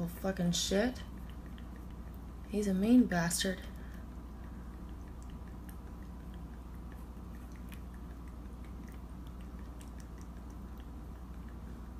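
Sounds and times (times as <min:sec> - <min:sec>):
steady low hum: 0:00.0 - 0:11.9
raccoon mouth smacking and clicking: 0:00.1 - 0:11.9.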